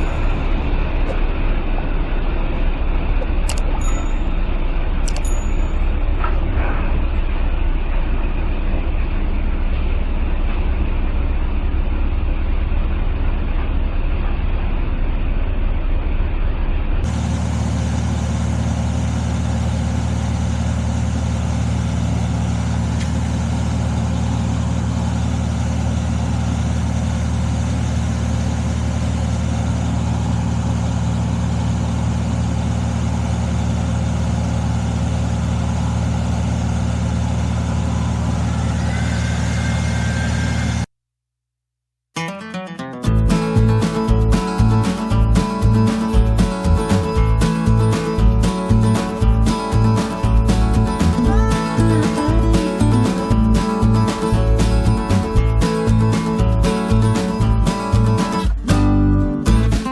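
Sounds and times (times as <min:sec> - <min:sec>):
heavy engine running: 0:00.0 - 0:40.9, 0:43.0 - 0:59.9.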